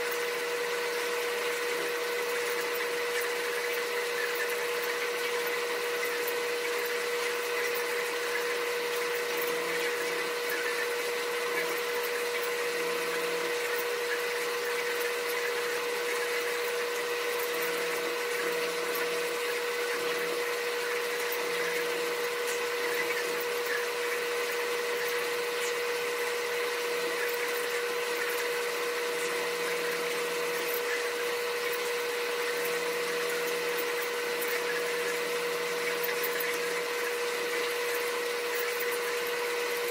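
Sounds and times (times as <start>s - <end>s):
machine hum with steady tone: 0.0s - 39.9s.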